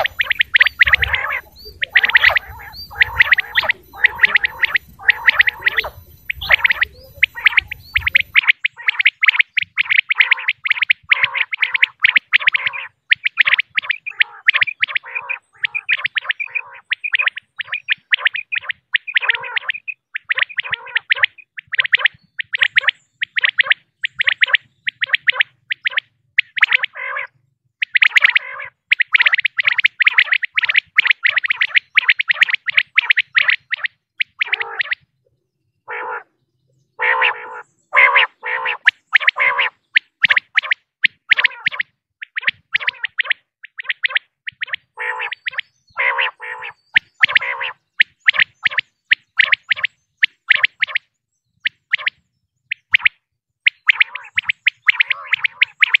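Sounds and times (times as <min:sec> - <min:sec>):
quail calling short notes: 0:00.0 - 0:35.0, 0:35.9 - 0:36.3, 0:37.0 - 0:48.8, 0:53.7 - 0:56.0.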